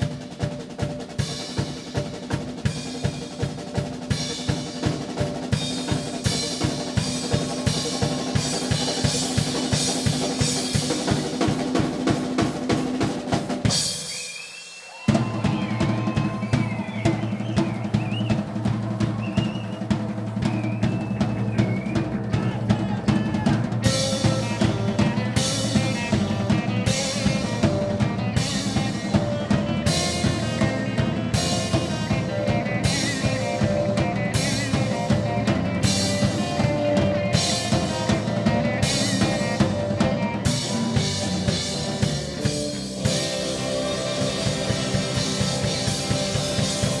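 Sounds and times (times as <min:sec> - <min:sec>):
electric guitars: 0:00.0 - 0:14.1, 0:15.0 - 0:47.0
rock drum kit solo: 0:00.0 - 0:47.0.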